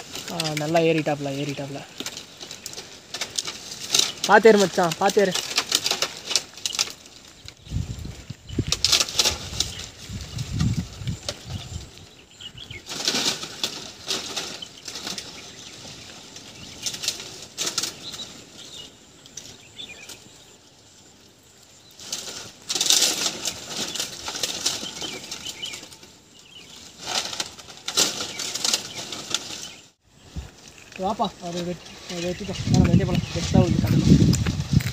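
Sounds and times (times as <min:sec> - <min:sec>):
dry palm fronds rustling: 0:00.0 - 0:34.9.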